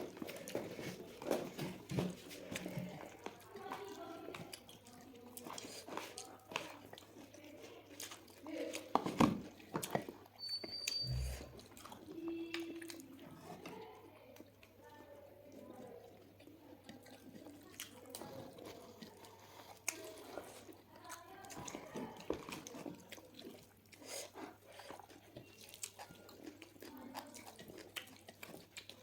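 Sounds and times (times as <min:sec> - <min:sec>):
person chewing with mouth smacks: 0:00.0 - 0:29.0.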